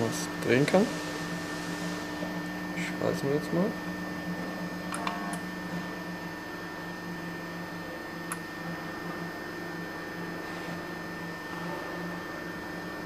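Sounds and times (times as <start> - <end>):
electric welder humming: 0.0 - 13.0.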